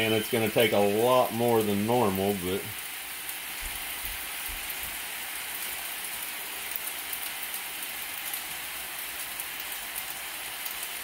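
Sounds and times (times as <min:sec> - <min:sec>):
fried rice sizzling: 0:00.0 - 0:11.0
sauce pouring: 0:00.0 - 0:11.0.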